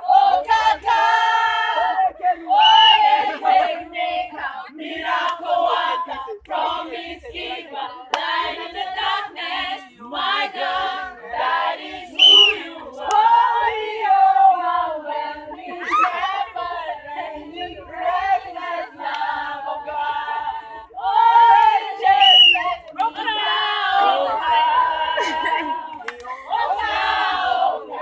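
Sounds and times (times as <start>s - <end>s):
people singing together: 0.0s - 28.0s.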